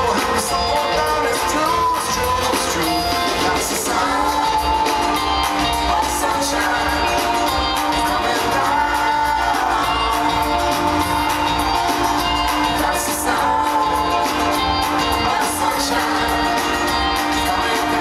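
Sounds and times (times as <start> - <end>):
crowd shouting and whooping: 0.0 - 18.0
live band playing: 0.0 - 18.0
person singing: 0.0 - 18.0.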